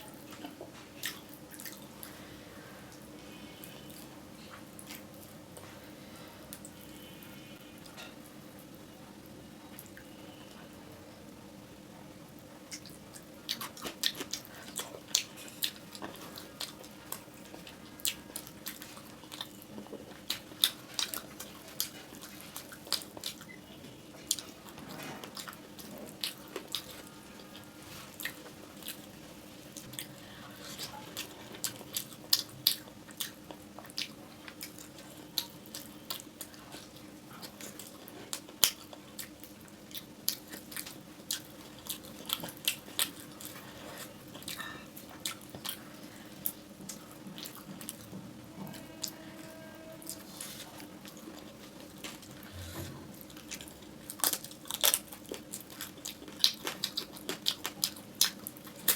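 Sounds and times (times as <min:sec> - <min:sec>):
chewing and mouth sounds: 0:00.0 - 0:02.3, 0:02.9 - 0:05.8, 0:12.6 - 0:58.9
faint steady hum: 0:00.0 - 0:58.9.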